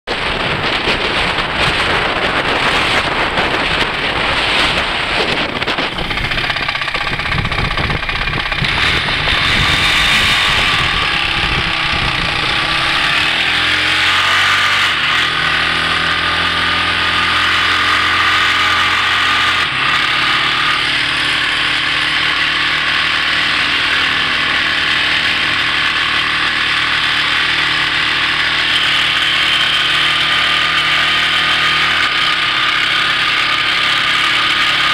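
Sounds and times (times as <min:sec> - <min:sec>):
wind noise on microphone: 0:00.1 - 0:32.2
vehicle engine running: 0:00.1 - 0:34.9.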